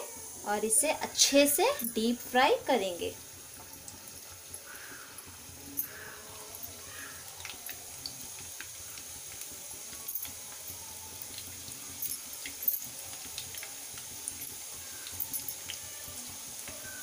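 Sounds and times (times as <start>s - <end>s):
food deep-frying in oil: 0.0s - 17.0s
oil popping: 3.2s - 17.0s.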